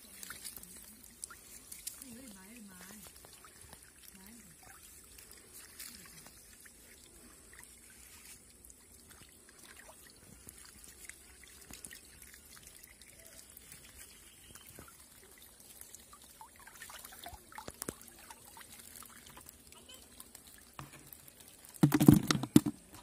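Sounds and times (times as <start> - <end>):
small taps and splashes: 0.0 - 23.0
water trickling and dripping: 0.0 - 23.0.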